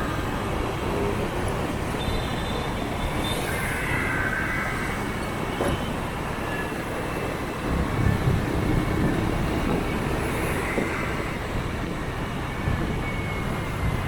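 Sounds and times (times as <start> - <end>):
motorbike traffic: 0.0 - 14.0
wind: 0.0 - 14.0.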